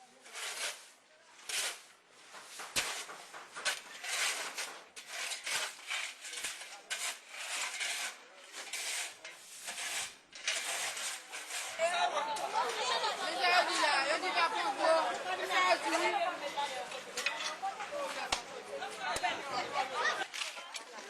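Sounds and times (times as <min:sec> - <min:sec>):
rough scraping strokes: 0:00.0 - 0:18.4.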